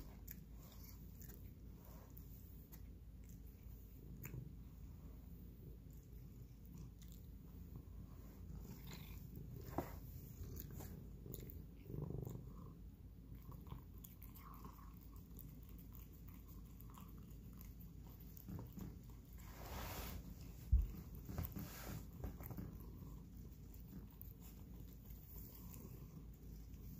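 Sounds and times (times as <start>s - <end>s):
cat licking and chewing food: 0.0s - 26.9s
cat purring: 0.0s - 26.9s.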